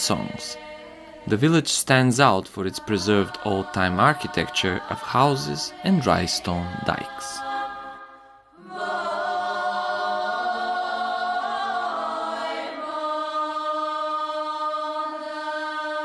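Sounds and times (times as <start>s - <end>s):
voices singing held chords: 0.0s - 16.0s.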